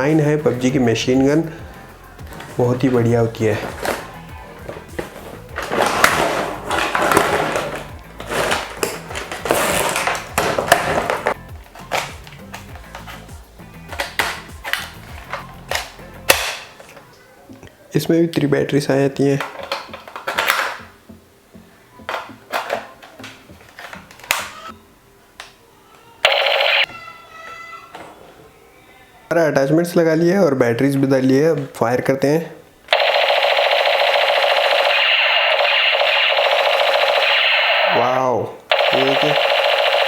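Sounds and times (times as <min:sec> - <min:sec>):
quiet background music: 0:00.0 - 0:40.0.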